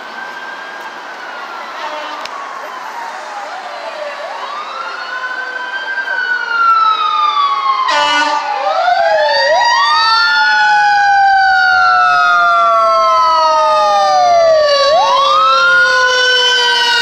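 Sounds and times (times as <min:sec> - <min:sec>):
falling siren tone: 0:00.0 - 0:17.0
rising and falling siren: 0:00.0 - 0:17.0.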